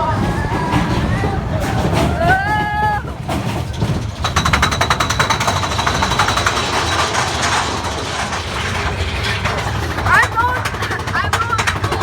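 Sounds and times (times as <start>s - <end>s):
roller coaster rattling clatter: 0.0s - 12.0s.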